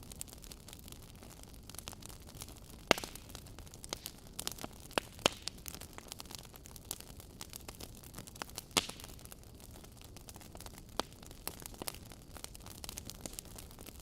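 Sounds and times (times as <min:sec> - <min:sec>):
low fire hiss: 0:00.0 - 0:14.0
wood fire crackling and popping: 0:00.0 - 0:14.0.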